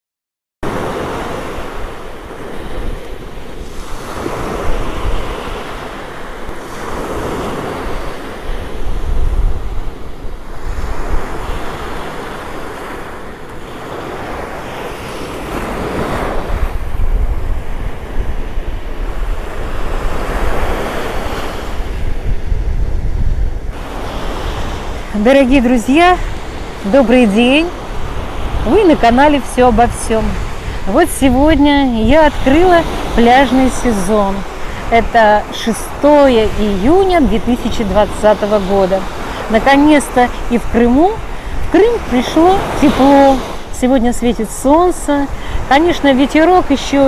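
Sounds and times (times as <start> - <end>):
sea surf breaking on beach: 0.6 - 47.0
wind buffeting microphone: 1.6 - 12.2, 15.0 - 47.0.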